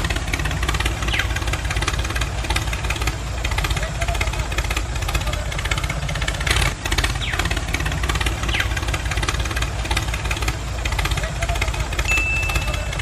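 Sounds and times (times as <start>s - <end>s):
tractor engine rattling: 0.0s - 13.0s.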